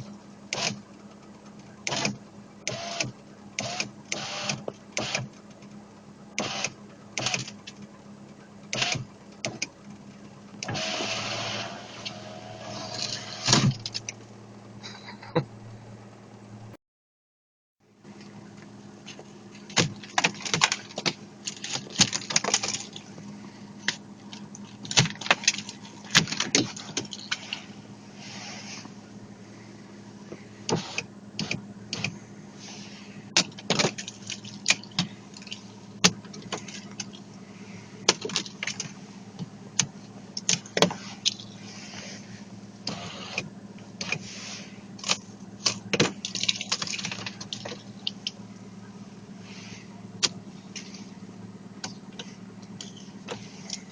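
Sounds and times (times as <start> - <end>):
car engine idling: 0.0 - 16.8, 17.8 - 53.9.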